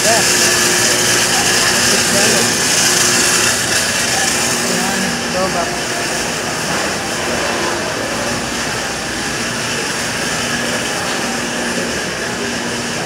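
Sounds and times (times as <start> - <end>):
indistinct voices: 0.0 - 13.0
restaurant dining room din: 0.0 - 13.0.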